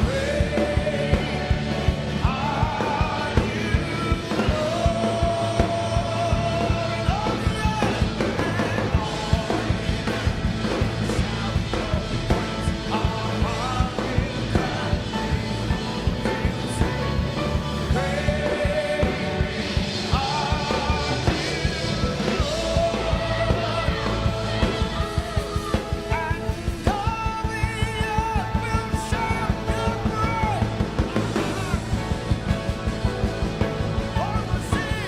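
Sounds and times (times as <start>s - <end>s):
steady drum beat: 0.0s - 35.0s
worship band music: 0.0s - 35.0s.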